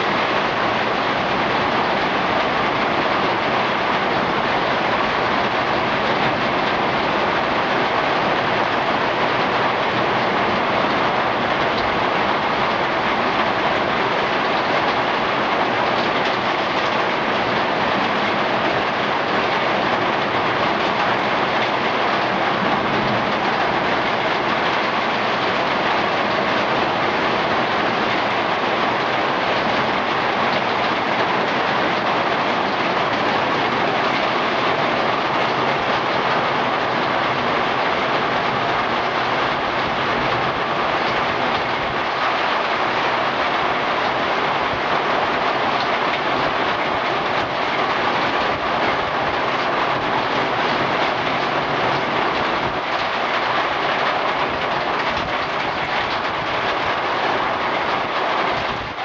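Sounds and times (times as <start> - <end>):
flood water rushing: 0.0 - 59.0.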